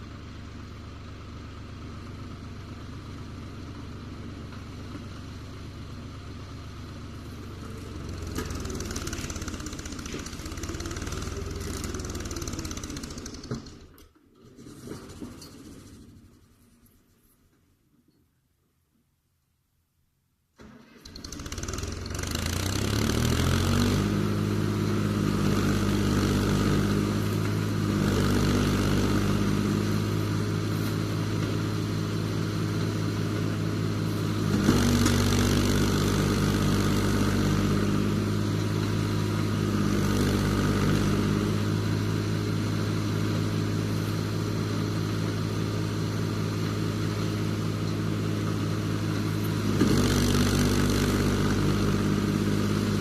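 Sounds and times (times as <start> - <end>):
tractor diesel engine running: 0.0 - 17.2, 20.6 - 53.0.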